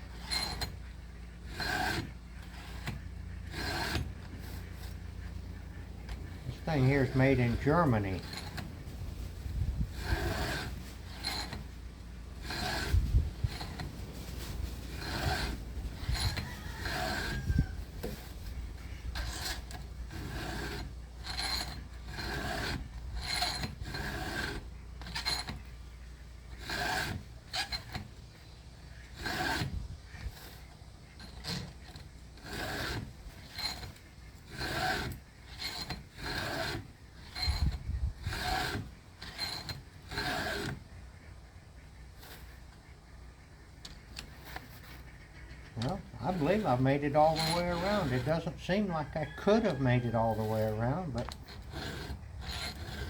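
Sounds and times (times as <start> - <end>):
file rasping on saw chain: 0.0 - 53.0.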